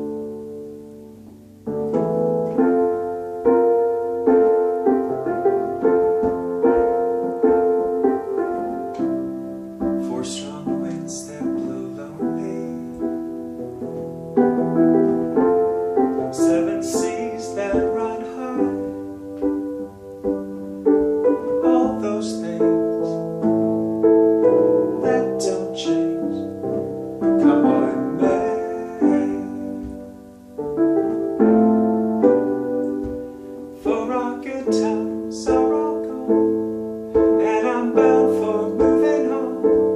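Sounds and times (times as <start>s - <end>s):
piano playing slow chords: 0.0s - 39.9s.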